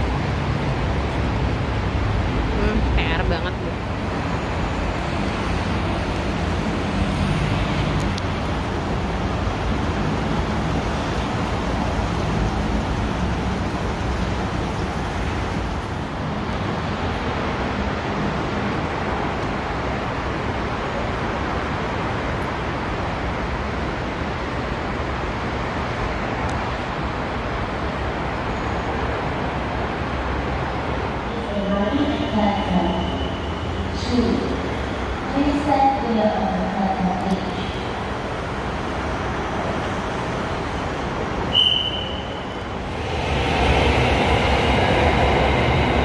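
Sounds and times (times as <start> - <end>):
rail station rumble: 0.0 - 46.0.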